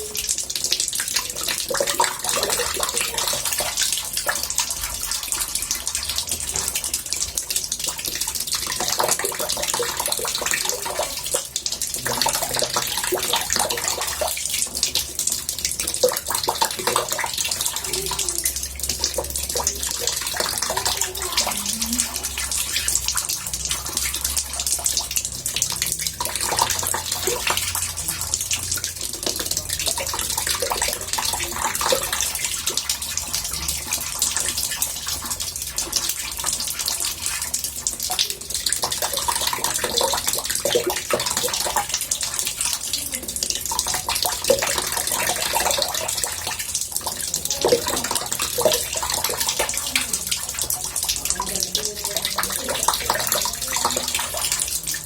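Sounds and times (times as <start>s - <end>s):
water running into a bathtub: 0.0s - 55.0s.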